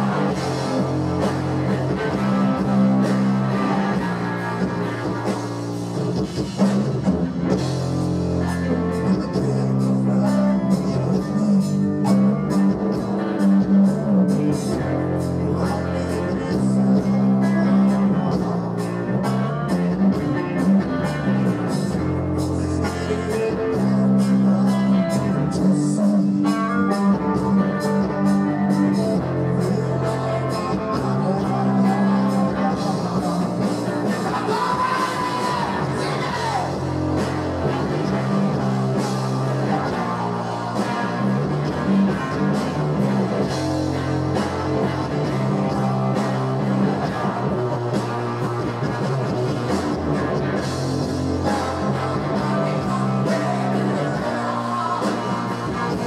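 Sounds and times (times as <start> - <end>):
live rock band with singing: 0.0 - 56.0.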